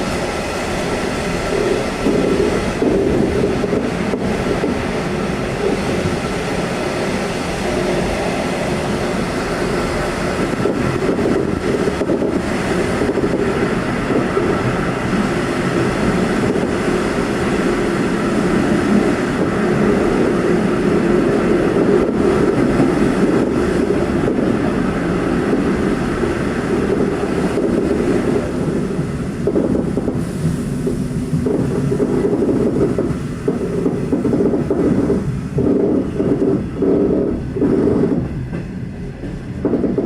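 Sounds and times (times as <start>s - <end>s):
train wheels rumbling on rails: 0.0s - 40.0s
wheels clickety-clack: 0.8s - 40.0s.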